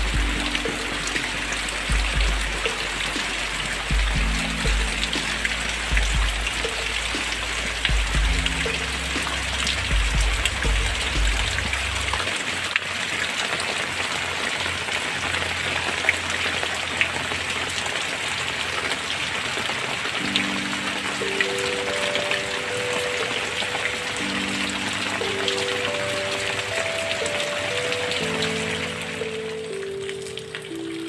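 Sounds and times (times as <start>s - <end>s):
soft low music notes: 0.0s - 31.0s
steady rain falling: 0.0s - 31.0s.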